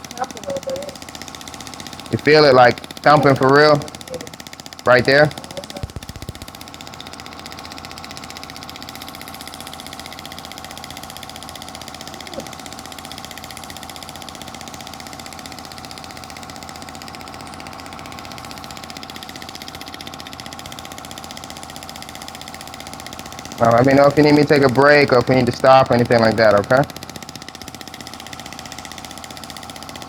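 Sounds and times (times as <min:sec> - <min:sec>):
shockwave device firing pulses: 0:00.0 - 0:30.0.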